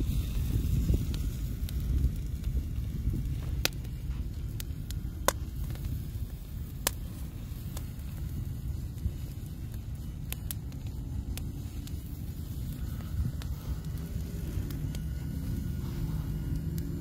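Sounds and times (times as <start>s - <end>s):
low rumble: 0.0s - 17.0s
wood fire crackling: 0.0s - 17.0s.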